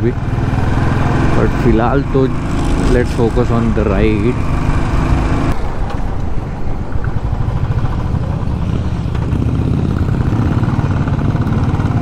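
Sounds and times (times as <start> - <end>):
motorcycle engine running: 0.0 - 5.6, 6.7 - 12.0.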